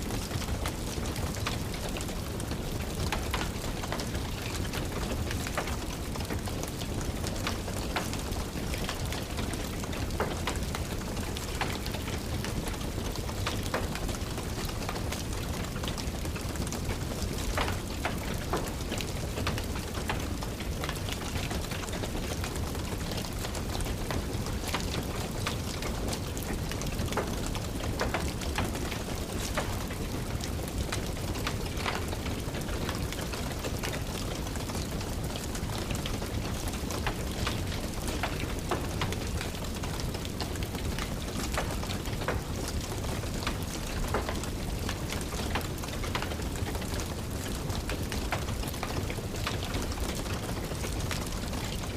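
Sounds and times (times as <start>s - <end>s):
steady rain: 0.0s - 51.9s
wood fire crackling: 0.0s - 51.9s.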